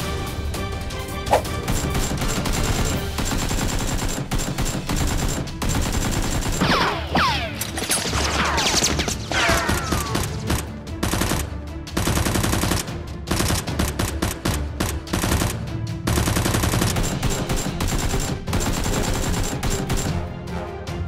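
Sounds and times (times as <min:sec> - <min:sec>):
rapid automatic gunfire: 0:01.5 - 0:06.8, 0:08.0 - 0:20.2.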